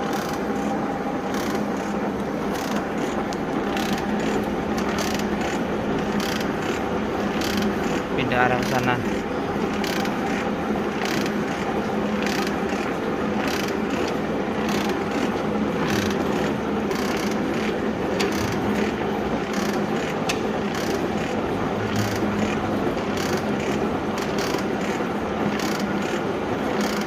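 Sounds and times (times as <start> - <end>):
machine ram clacking: 0.0 - 27.0
motor and gear hum: 0.0 - 27.0.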